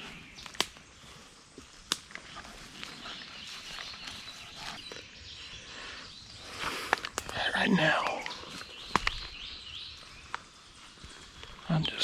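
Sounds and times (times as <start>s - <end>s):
faint bird chirps: 0.0s - 12.0s
footsteps on woodland trail: 0.0s - 12.0s.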